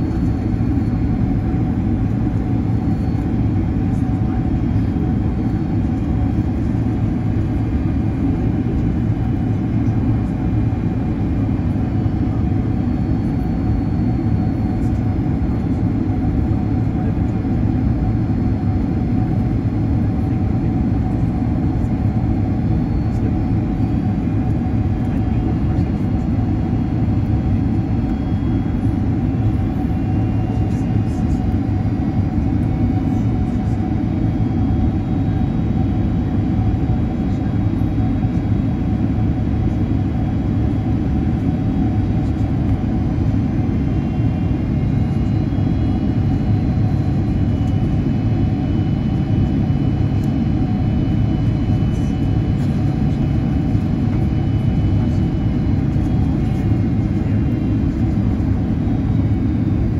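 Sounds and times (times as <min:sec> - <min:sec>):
jet engine and airflow rumble: 0:00.0 - 0:59.9
thin steady whine: 0:00.0 - 0:59.9.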